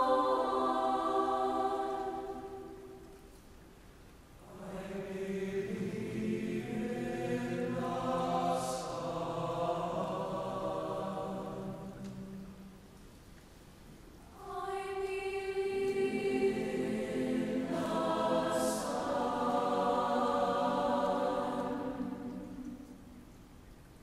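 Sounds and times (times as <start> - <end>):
mixed choir singing: 0.0 - 3.0, 4.4 - 12.6, 14.3 - 23.2.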